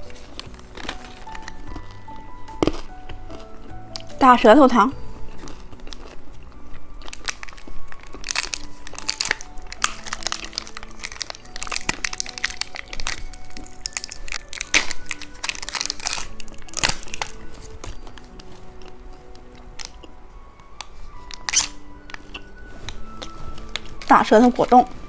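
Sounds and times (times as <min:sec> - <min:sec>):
background music: 0:00.0 - 0:25.0.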